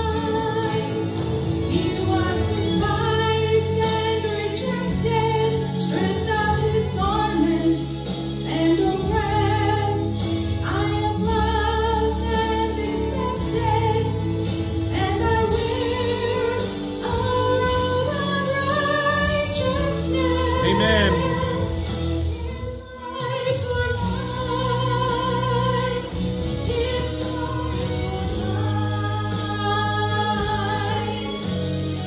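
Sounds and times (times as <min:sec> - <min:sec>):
instrumental accompaniment: 0:00.0 - 0:32.0
woman singing into a microphone: 0:00.0 - 0:32.0.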